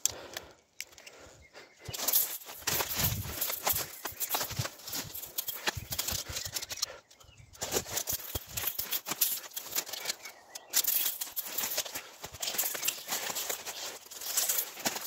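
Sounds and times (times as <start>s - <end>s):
twigs and leaves crackling: 0.0s - 15.0s
footsteps through undergrowth: 1.1s - 15.0s.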